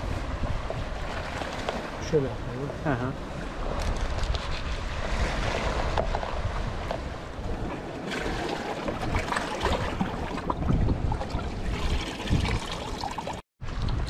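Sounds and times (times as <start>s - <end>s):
wind on microphone: 0.0s - 12.8s, 13.6s - 14.0s
sea waves: 0.0s - 13.4s.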